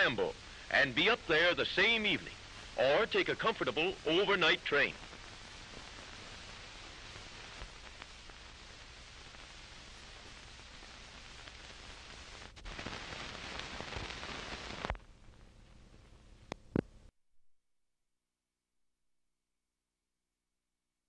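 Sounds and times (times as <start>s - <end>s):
film soundtrack hiss: 0.0s - 17.1s.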